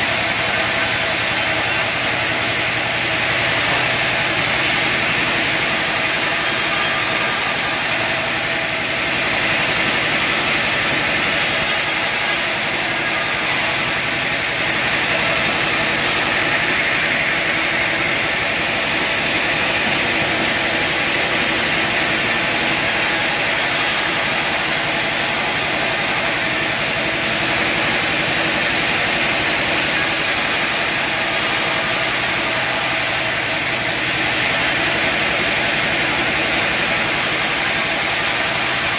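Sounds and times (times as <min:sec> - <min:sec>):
bandsaw engine and blade drone: 0:00.0 - 0:38.9.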